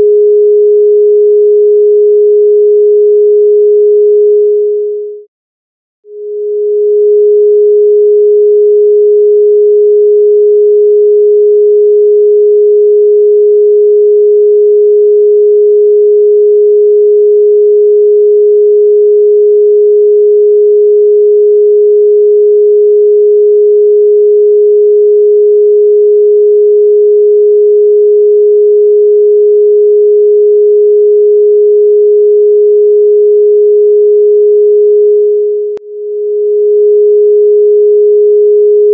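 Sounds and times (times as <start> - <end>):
steady electronic sine tone: 0.0 - 5.3, 6.0 - 38.9.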